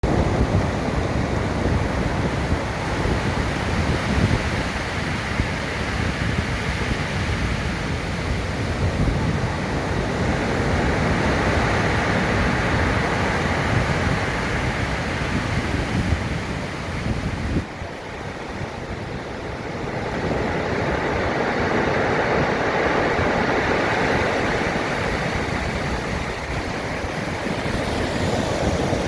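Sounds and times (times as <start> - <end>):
sea surf breaking on shore: 0.0 - 29.0
wind buffeting microphone: 0.0 - 29.0.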